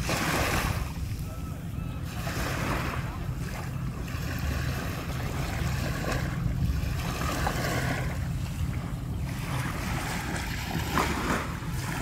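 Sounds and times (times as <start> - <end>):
small waves lapping on shore: 0.0 - 12.0
wind rumbling on microphone: 0.0 - 12.0.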